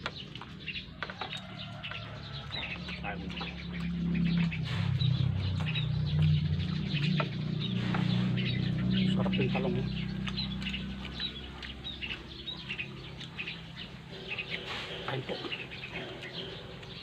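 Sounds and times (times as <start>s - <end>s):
small birds chirping: 0.0s - 17.0s
low hum: 2.4s - 17.0s.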